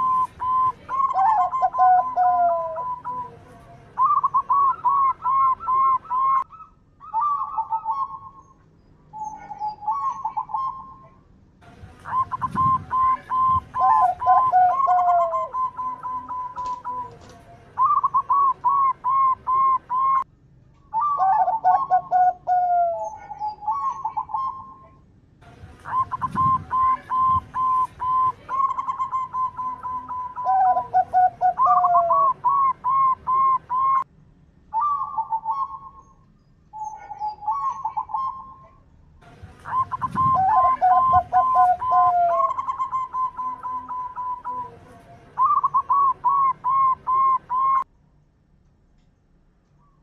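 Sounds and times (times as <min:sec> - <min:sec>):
dove cooing: 0:00.0 - 0:03.4, 0:04.0 - 0:08.5, 0:09.1 - 0:11.1, 0:12.0 - 0:20.2, 0:20.9 - 0:25.0, 0:25.8 - 0:34.0, 0:34.7 - 0:36.0, 0:36.8 - 0:38.8, 0:39.6 - 0:44.8, 0:45.4 - 0:47.8.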